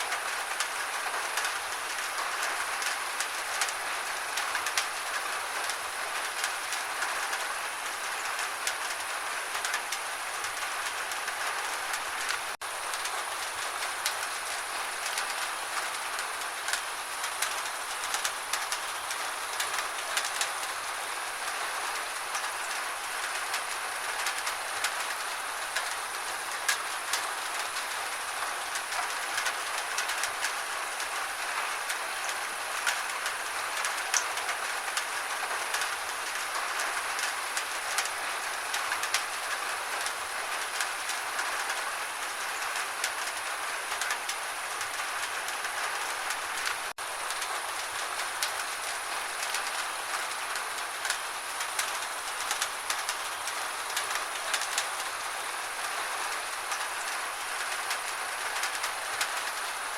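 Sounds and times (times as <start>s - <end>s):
gentle rain hissing: 0.0s - 59.9s
raindrops ticking on a surface: 0.0s - 59.9s.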